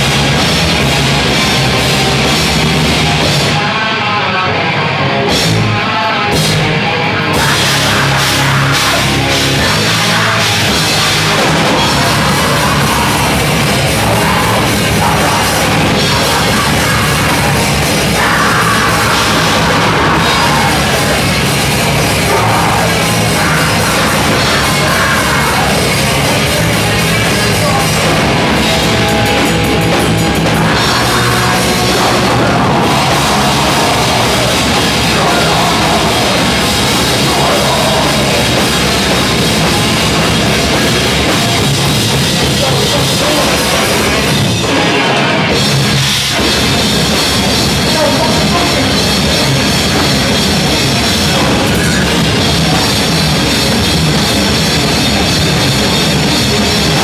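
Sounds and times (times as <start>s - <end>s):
pounding drum kit: 0.0s - 57.0s
rock band playing: 0.0s - 57.0s.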